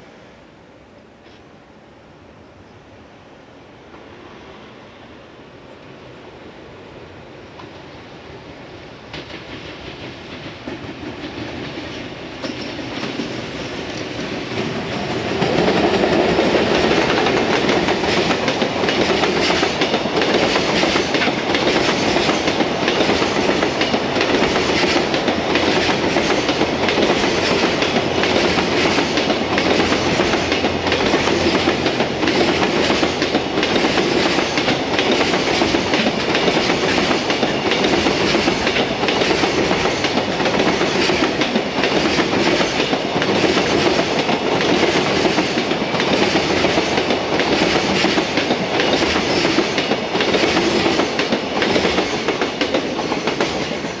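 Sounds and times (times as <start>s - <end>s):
freight train wheels clattering: 9.0s - 54.0s.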